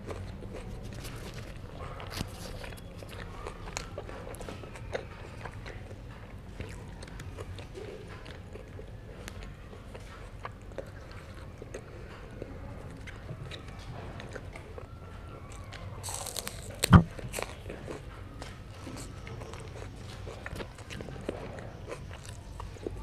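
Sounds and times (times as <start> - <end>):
mouth clicks and smacks chewing: 0.0 - 23.0.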